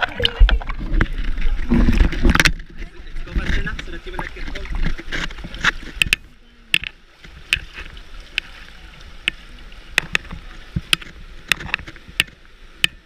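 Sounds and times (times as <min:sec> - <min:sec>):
small water splashes: 0:00.0 - 0:13.0.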